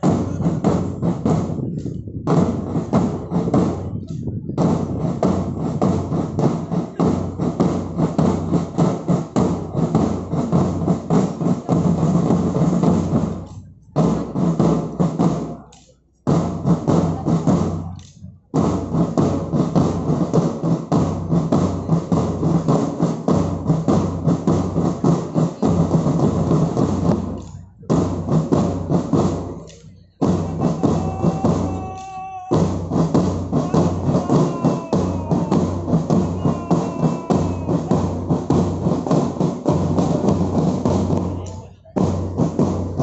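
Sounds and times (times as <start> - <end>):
bass drums: 0.0 - 43.0
snare drums: 0.0 - 43.0.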